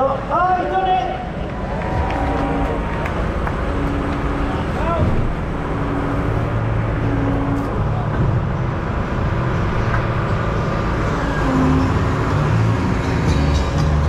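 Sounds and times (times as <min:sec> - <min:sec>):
tractor engines running: 0:00.0 - 0:14.0.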